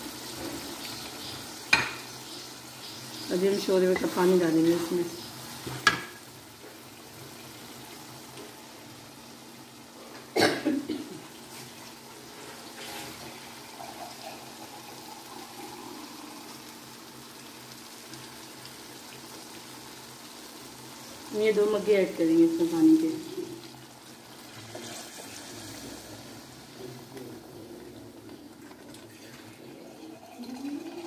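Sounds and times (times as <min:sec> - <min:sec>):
curry sizzling in a pan: 0:00.0 - 0:31.0.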